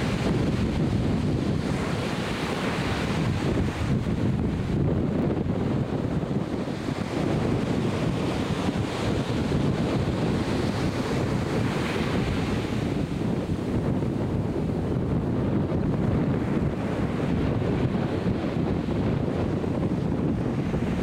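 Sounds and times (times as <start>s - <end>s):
ocean surf washing in: 0.0s - 21.0s
wind buffeting the microphone: 0.0s - 21.0s.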